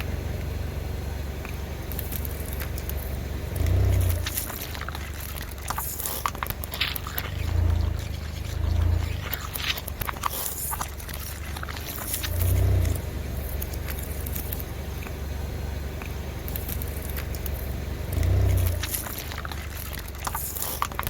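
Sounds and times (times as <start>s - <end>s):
car engine humming: 0.0s - 21.0s
crackles of crushing under tyre: 1.3s - 21.0s.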